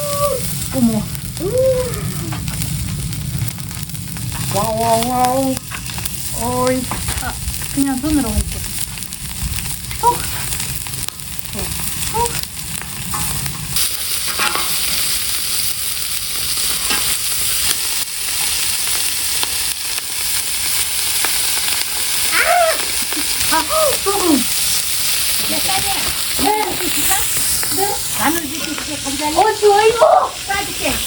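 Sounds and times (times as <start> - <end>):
meat sizzling: 0.0 - 31.0.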